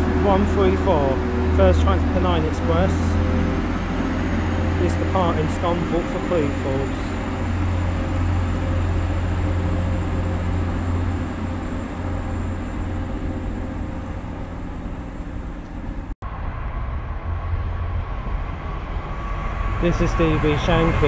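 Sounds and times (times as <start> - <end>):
train diesel engine drone: 0.0 - 21.0.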